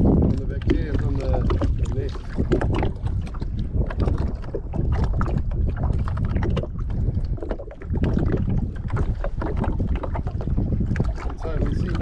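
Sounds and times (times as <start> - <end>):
water slapping against boat: 0.0 - 12.0
wind buffeting microphone: 0.0 - 12.0.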